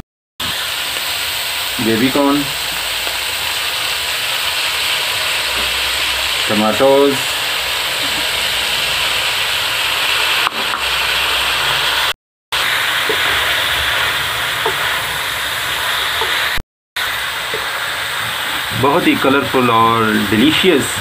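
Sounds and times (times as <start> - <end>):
food sizzling in a wok: 0.4 - 21.0.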